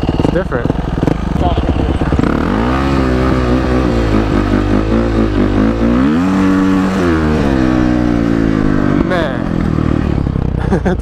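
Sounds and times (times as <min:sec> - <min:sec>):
dirt bike accelerating hard: 0:00.0 - 0:11.0.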